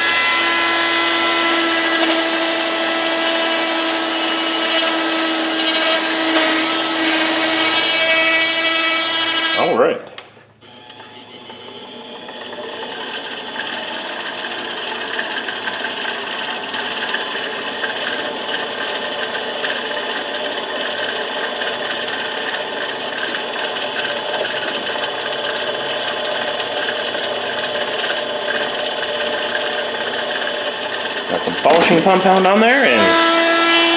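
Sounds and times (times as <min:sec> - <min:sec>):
rotary tool sanding metal: 0:00.0 - 0:09.7, 0:12.9 - 0:33.9
machine hum: 0:00.0 - 0:33.9.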